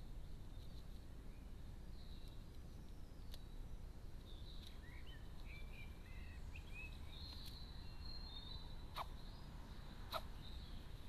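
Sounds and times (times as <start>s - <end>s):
faint songbirds chirping: 0.0s - 11.0s.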